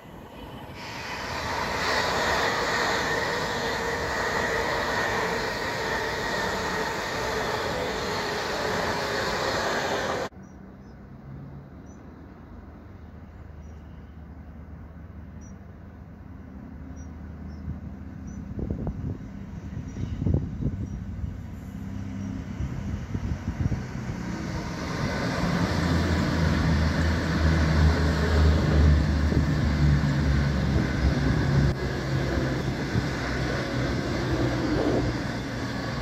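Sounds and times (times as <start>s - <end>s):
electric train passing at speed: 0.0s - 36.0s
low hum of approaching train: 0.0s - 36.0s.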